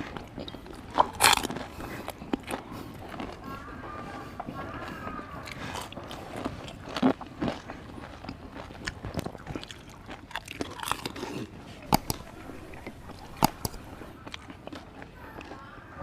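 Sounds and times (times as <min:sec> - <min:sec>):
crunchy shells being chewed: 0:00.0 - 0:15.8.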